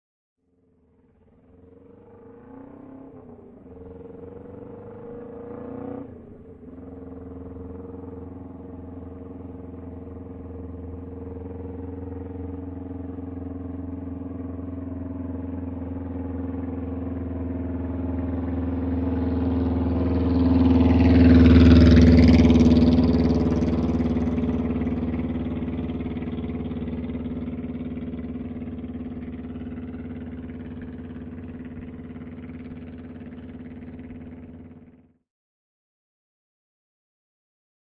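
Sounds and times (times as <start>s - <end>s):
motorcycle engine running: 0.5s - 35.2s.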